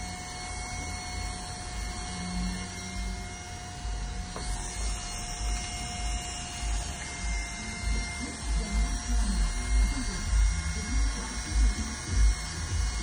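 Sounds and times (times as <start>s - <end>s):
electric hair clippers humming: 0.0s - 13.0s.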